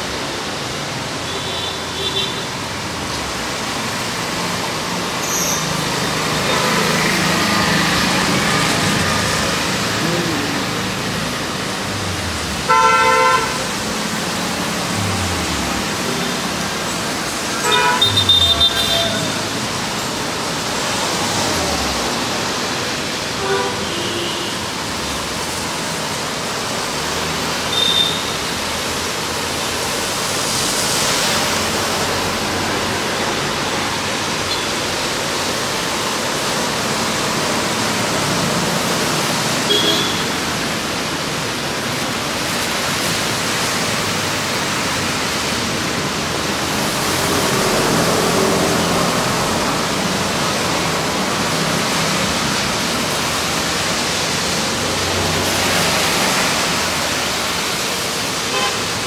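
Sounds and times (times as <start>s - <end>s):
heavy rain hissing on road: 0.0s - 59.0s
tyres swishing through water: 2.9s - 23.8s, 24.6s - 59.0s.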